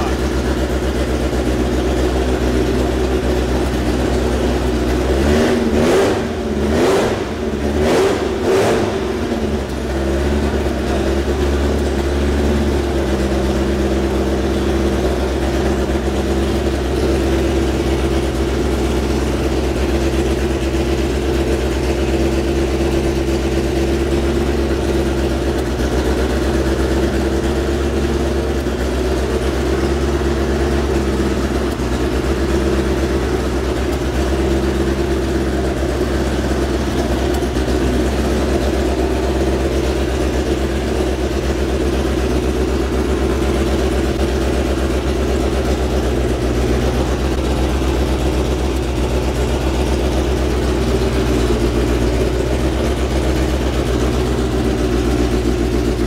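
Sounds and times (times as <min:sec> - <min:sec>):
racing engine idling and revving: 0:00.0 - 0:56.0.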